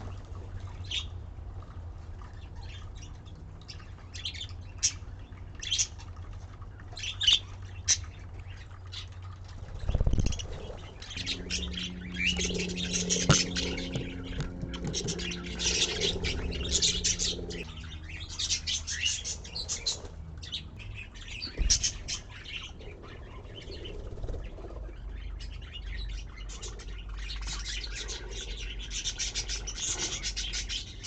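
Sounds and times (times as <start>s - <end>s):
low hum: 0.0s - 31.0s
budgies chirping: 2.1s - 31.0s.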